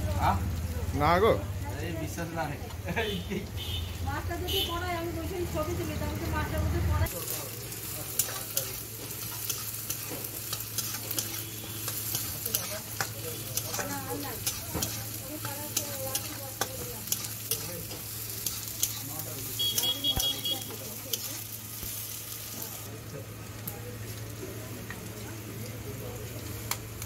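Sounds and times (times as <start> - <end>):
frying sizzle: 0.0 - 27.0.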